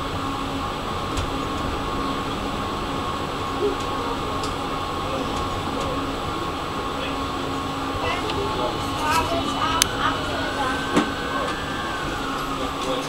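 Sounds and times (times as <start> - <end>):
tram drive and wheels humming: 0.0 - 13.0.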